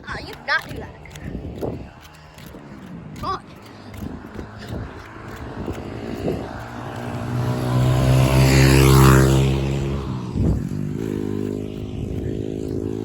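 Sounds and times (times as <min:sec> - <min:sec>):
motorcycle passing by: 0:00.0 - 0:13.0.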